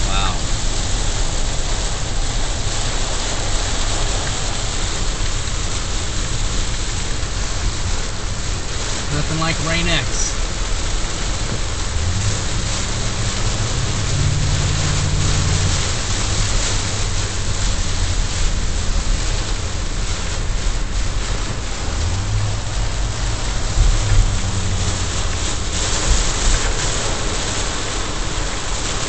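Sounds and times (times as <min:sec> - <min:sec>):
car engine and tyres hum: 0:00.0 - 0:29.0
heavy rain on car windshield: 0:00.0 - 0:29.0.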